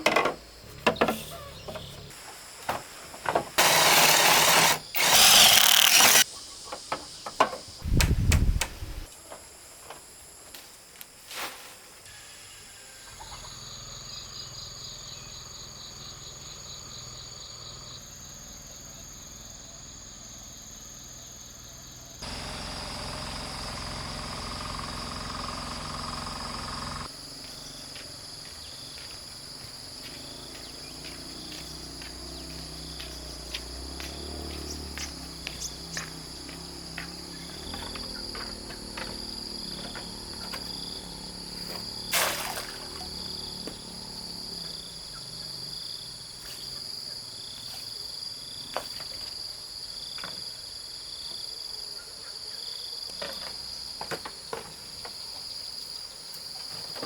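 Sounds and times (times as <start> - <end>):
insects and crickets chirping: 0.0 - 57.0.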